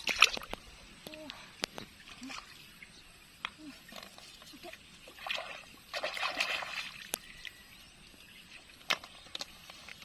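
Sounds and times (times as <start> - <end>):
water sloshing and splashing: 0.0 - 0.8, 1.6 - 3.0, 3.6 - 10.0.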